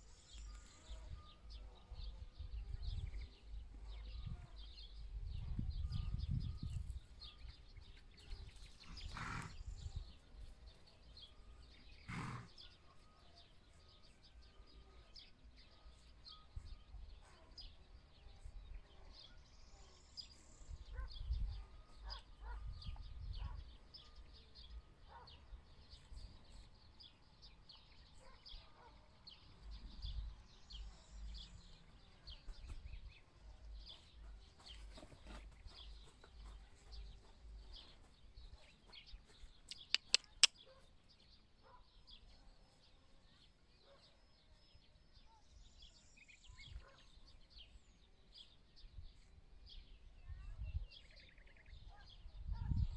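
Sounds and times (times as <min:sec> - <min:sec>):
birds chirping and singing: 0:00.0 - 0:52.9.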